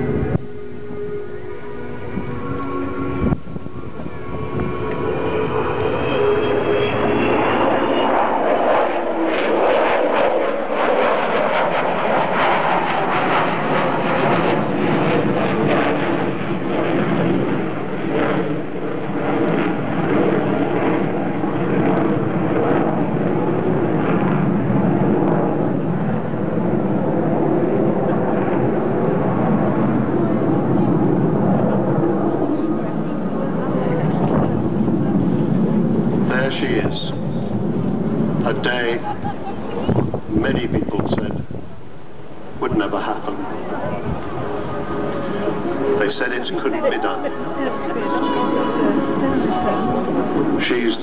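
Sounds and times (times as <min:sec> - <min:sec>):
loud jet roar: 0:00.0 - 0:51.0.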